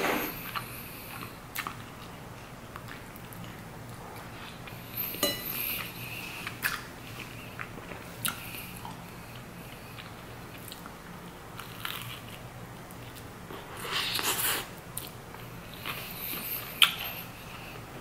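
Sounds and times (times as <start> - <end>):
chewing a sandwich: 0.0 - 18.0
steady low hum: 0.0 - 18.0.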